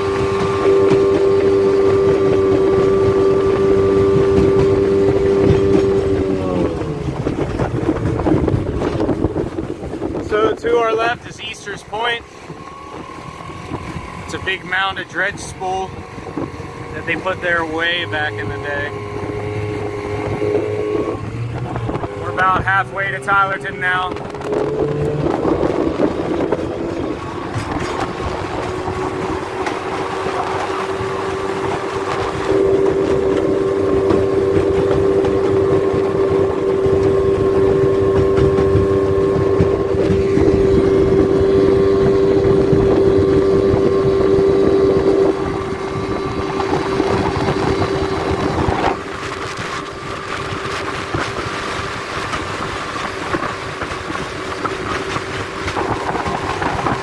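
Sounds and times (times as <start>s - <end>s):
outboard motor hum: 0.0s - 57.0s
wind and water rushing: 0.0s - 57.0s.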